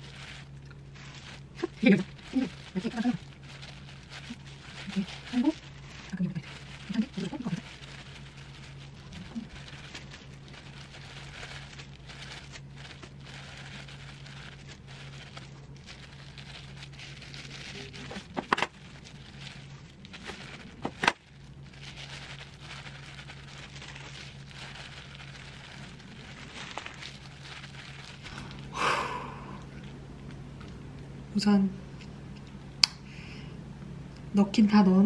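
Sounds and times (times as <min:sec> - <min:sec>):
seaweed crackling and rustling: 0:00.0 - 0:30.0
steady low hum: 0:00.0 - 0:35.0.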